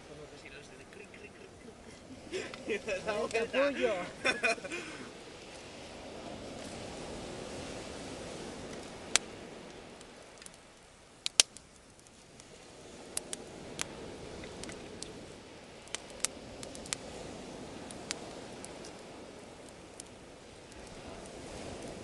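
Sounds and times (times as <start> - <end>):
burning wood popping: 0.0 - 22.0.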